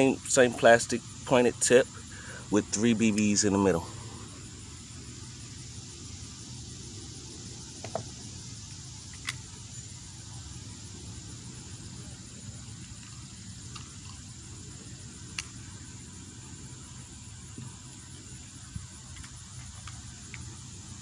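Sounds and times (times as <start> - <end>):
faint high hiss: 0.0 - 21.0.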